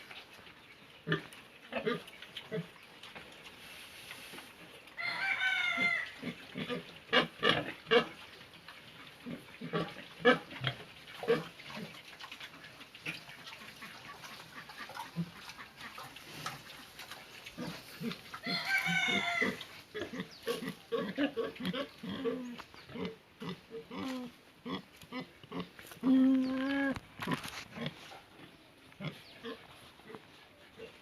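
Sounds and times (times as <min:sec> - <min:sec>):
pigs grunting: 0:01.0 - 0:02.8, 0:05.4 - 0:08.2, 0:09.0 - 0:31.0.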